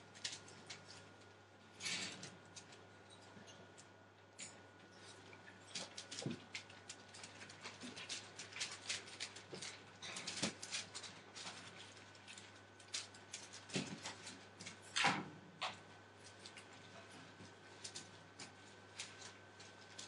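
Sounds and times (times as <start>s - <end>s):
puppies scrabbling on newspaper: 0.0s - 2.9s, 5.0s - 20.0s.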